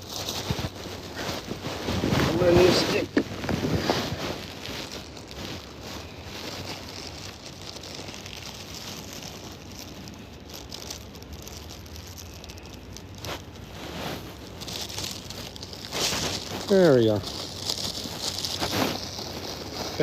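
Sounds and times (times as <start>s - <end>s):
plastic bag rustling: 0.0s - 20.0s.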